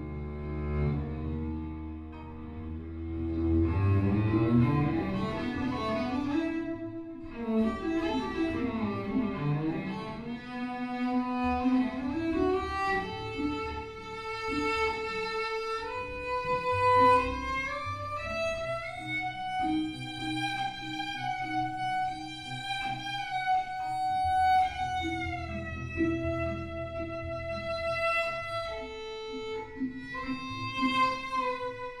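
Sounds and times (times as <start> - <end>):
bowed cello slow melody: 0.0 - 32.0.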